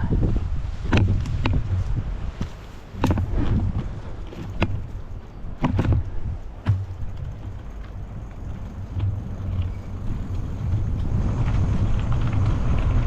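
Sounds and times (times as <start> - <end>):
e-bike rumble: 0.0 - 13.0
wind buffeting microphone: 0.0 - 13.0.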